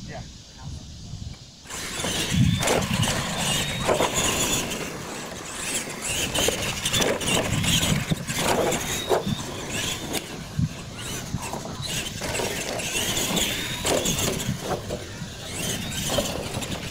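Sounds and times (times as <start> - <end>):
toy truck electric motors whining: 1.6 - 16.9.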